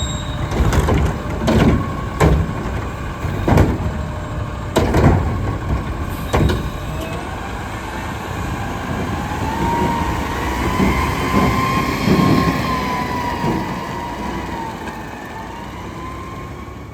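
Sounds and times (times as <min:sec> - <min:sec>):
engine whine: 0:00.0 - 0:16.9
garbage truck engine rumbling: 0:00.0 - 0:16.9.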